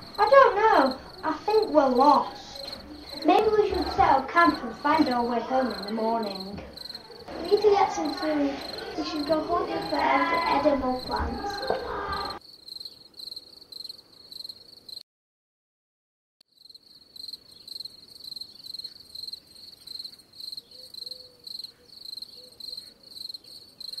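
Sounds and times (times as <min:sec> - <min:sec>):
crickets chirping: 0:00.0 - 0:15.0, 0:16.5 - 0:24.0.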